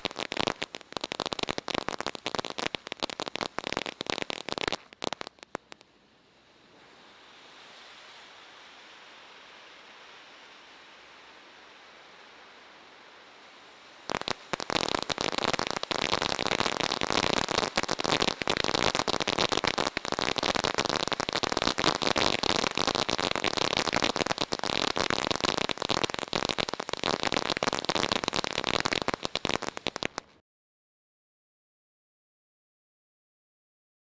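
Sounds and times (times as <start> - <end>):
firework fountain crackling: 0.0 - 6.0, 6.6 - 30.4.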